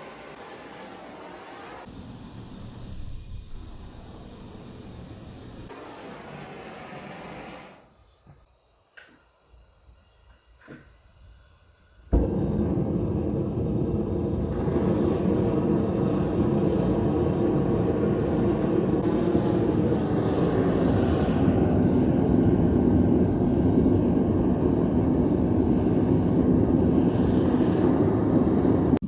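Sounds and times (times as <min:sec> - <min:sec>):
gas burner roaring: 0:00.0 - 0:29.0.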